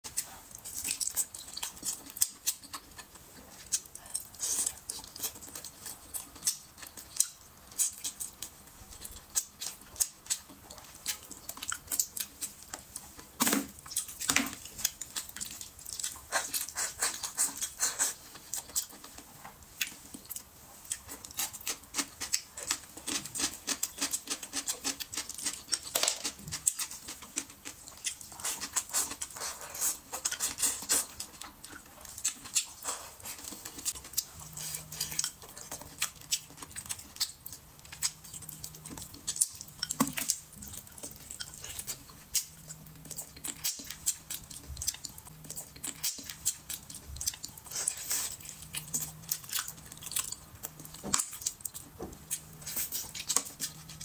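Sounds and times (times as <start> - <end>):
chewing and lip-smacking: 0.1 - 54.0.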